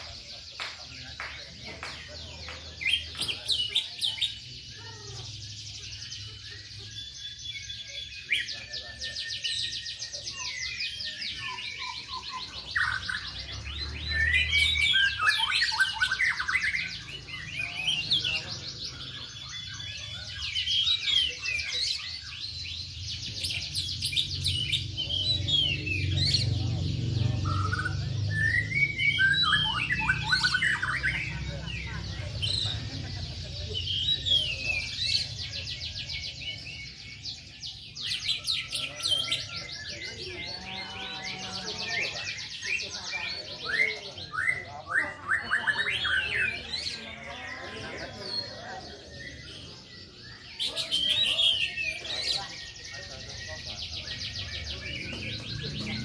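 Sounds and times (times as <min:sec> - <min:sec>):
canaries singing and trilling: 0:00.0 - 0:56.0.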